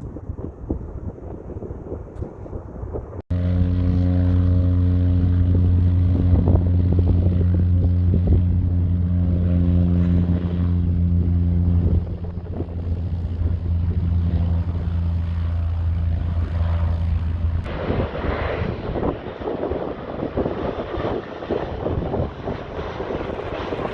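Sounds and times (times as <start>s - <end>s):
propeller airplane engine: 0.0s - 23.9s
wind noise on microphone: 0.0s - 23.9s.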